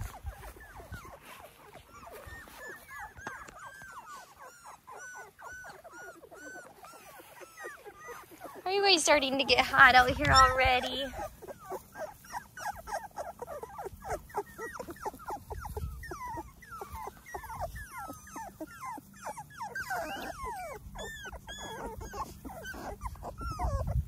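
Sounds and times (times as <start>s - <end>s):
puppies whimpering and squeaking: 0.0s - 24.0s.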